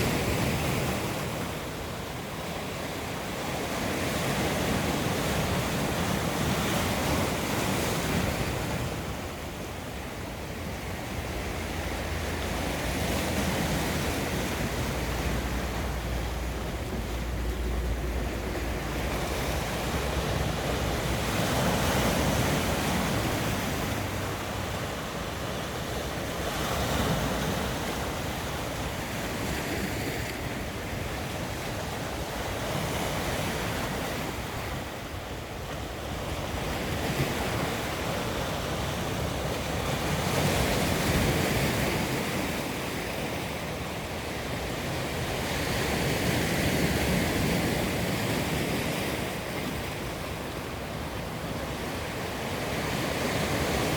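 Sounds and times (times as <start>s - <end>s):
waves breaking on shore: 0.0s - 53.9s.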